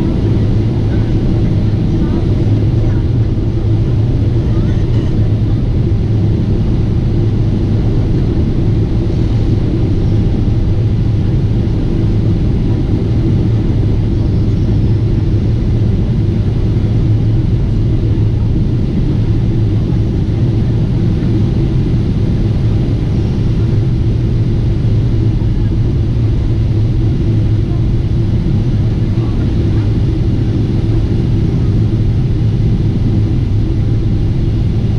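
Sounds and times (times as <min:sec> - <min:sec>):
airliner cabin drone: 0:00.0 - 0:34.9.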